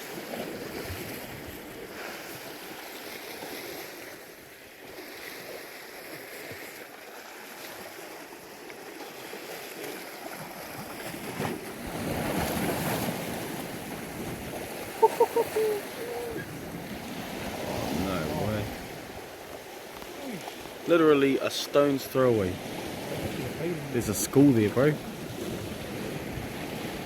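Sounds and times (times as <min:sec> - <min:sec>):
surf washing against rocks: 0:00.0 - 0:27.0.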